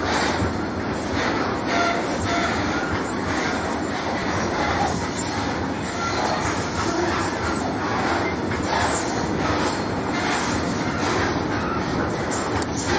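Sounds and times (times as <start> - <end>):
train wheels running over track: 0.0 - 12.9.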